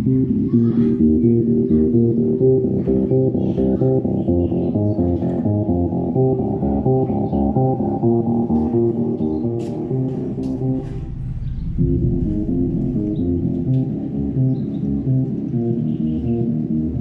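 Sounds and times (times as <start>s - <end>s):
bass-heavy music through subwoofer: 0.0s - 17.0s.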